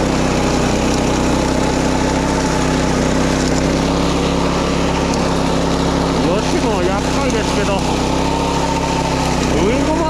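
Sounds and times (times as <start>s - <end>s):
small petrol engine droning: 0.0s - 10.0s.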